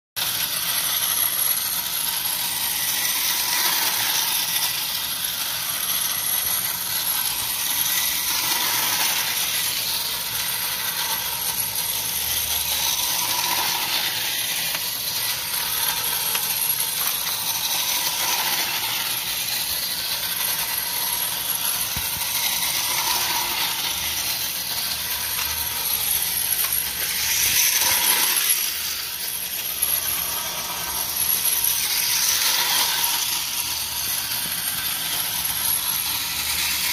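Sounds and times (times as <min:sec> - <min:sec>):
toy electric locomotive running: 0:00.2 - 0:36.9.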